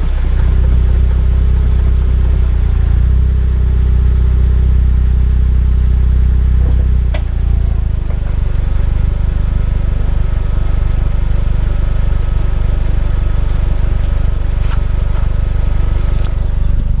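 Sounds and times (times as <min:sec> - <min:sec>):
vehicle differential drone: 0:00.0 - 0:17.0.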